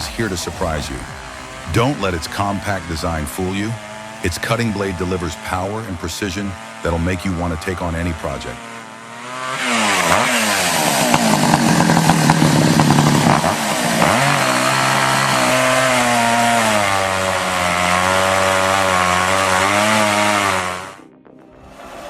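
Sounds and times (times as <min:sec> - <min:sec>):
chainsaw running: 0:00.0 - 0:21.0.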